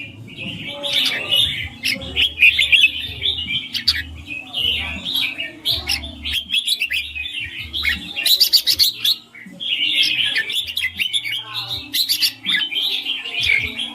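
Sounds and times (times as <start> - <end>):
bird singing chirpy phrases: 0.0 - 13.9.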